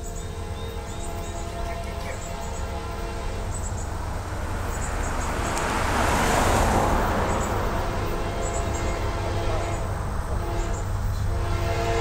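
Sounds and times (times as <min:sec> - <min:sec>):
vehicle driving past: 0:00.9 - 0:12.0.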